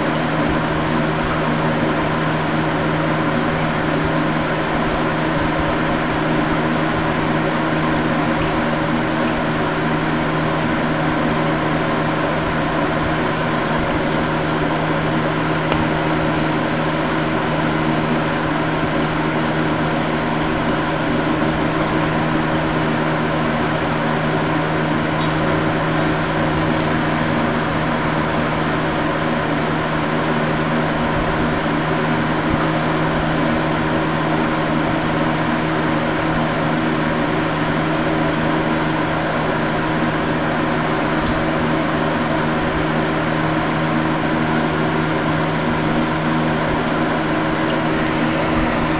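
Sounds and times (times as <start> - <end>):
aquarium pump humming: 0.0 - 48.9.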